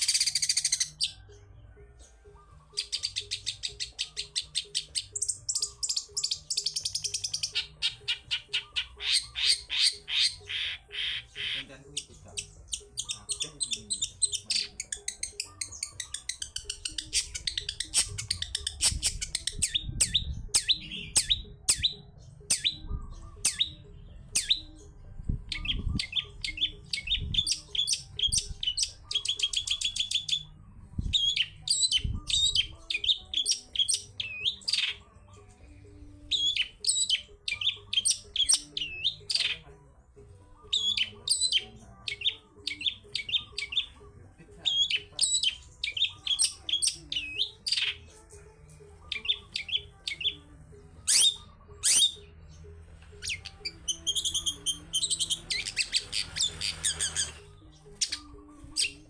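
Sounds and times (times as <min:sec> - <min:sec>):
bird singing rapid sharp chirps: 0:00.0 - 0:01.4, 0:02.5 - 0:35.0, 0:36.3 - 0:39.6, 0:40.6 - 0:44.0, 0:44.7 - 0:48.0, 0:49.1 - 0:50.4, 0:51.0 - 0:59.0.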